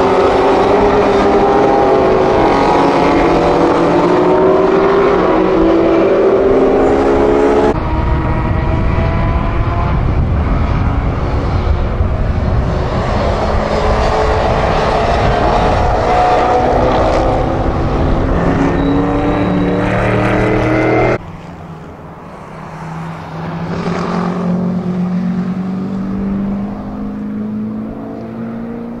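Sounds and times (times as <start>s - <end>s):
distant race car accelerating: 0.0s - 29.0s
racing car engine: 0.0s - 29.0s.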